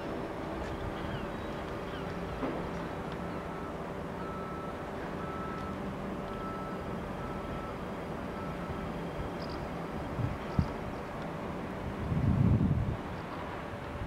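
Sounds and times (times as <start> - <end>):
locomotive low rumble: 0.0 - 14.0.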